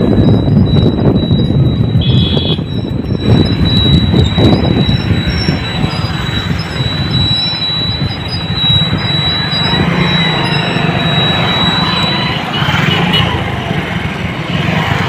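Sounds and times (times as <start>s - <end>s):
motorbike engine and tyre rumble: 0.0s - 15.0s
wind rushing over microphone: 0.0s - 15.0s
short high beep: 0.2s - 13.4s.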